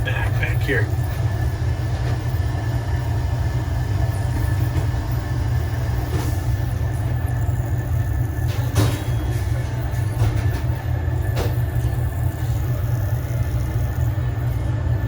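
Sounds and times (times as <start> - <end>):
low machinery drone: 0.0 - 15.0.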